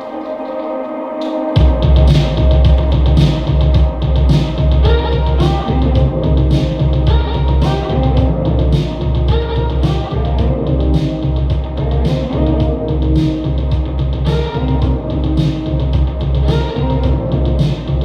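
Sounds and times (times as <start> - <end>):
rock music with drums and bass: 1.6 - 18.0.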